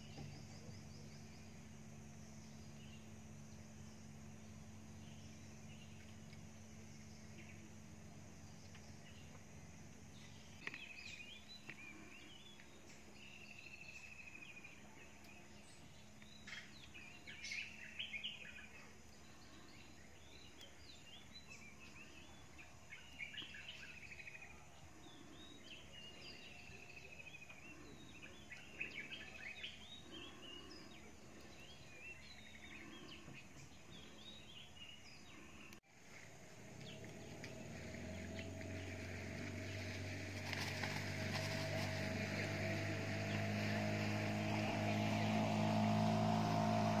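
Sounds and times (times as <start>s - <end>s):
birds chirping and trilling: 0.0s - 47.0s.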